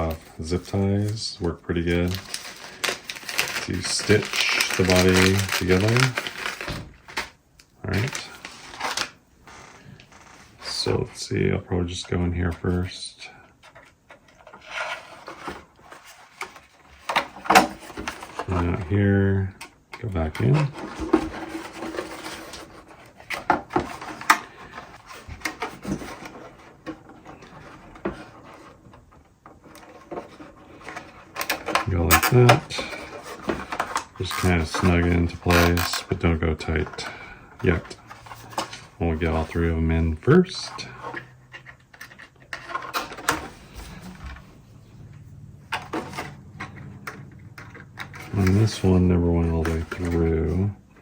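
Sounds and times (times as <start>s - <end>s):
plastic rubbing on plastic: 0.0s - 11.3s, 19.8s - 51.0s.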